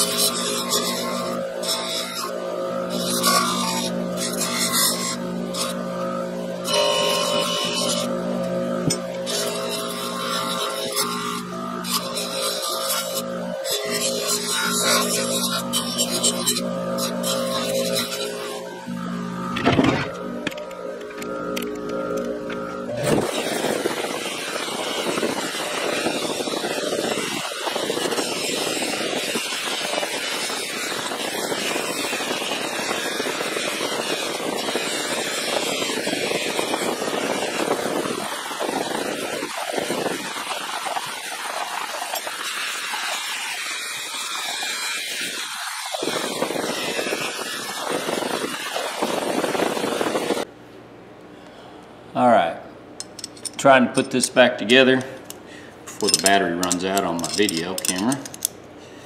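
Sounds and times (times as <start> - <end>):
bench grinder grinding metal: 0.0 - 50.5, 53.0 - 58.6.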